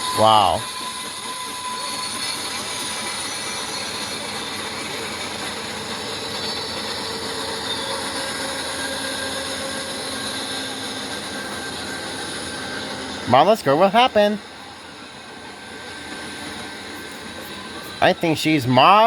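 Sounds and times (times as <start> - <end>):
train rolling on rails: 0.0 - 19.0.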